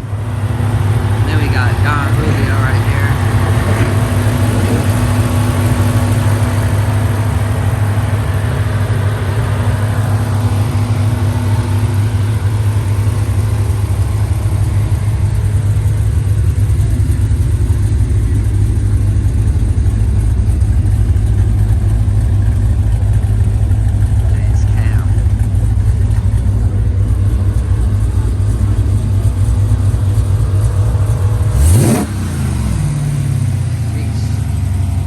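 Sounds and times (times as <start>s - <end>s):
steady hum: 0.0s - 31.5s
car engine idling: 0.0s - 35.0s.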